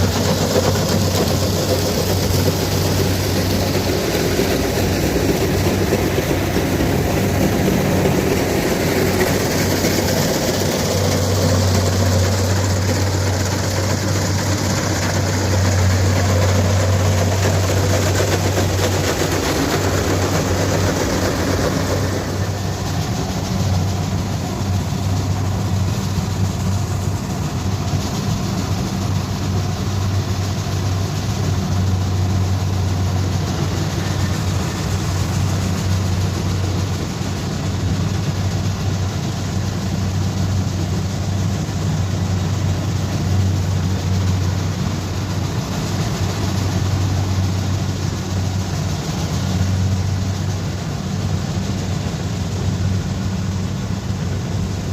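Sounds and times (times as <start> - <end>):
broad mechanical rush: 0.0 - 54.9
combine harvester engine hum: 0.0 - 54.9.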